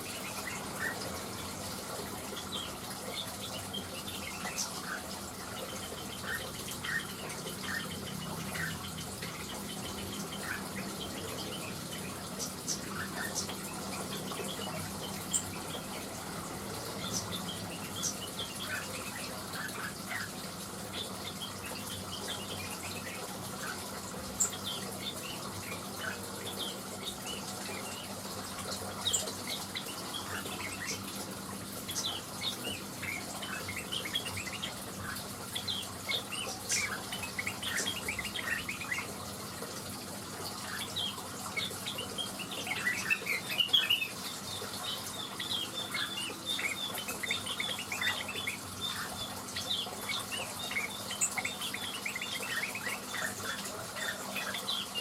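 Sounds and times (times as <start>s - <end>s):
bird chirping and twittering: 0.0s - 55.0s.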